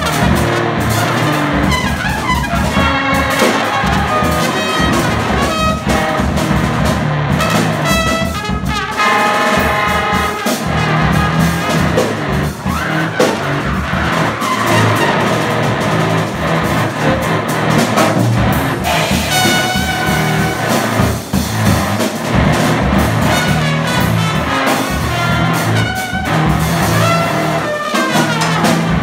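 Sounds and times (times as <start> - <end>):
busy drums: 0.0 - 29.0
trumpet: 0.0 - 29.0.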